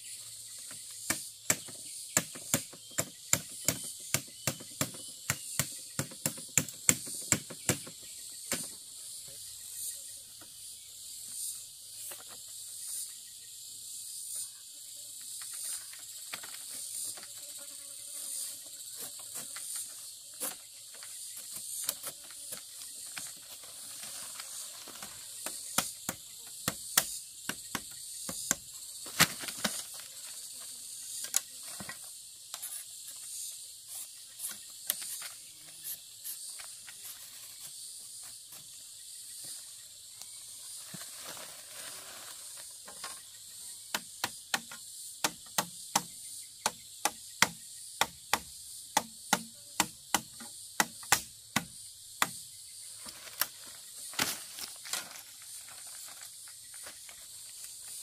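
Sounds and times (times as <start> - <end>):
insects shrilling: 0.0 - 58.0.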